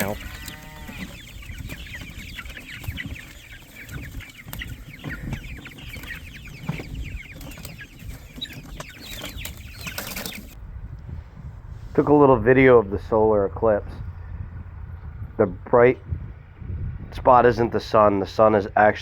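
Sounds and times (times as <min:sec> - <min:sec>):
chicks cheeping and clucking: 0:00.0 - 0:19.0.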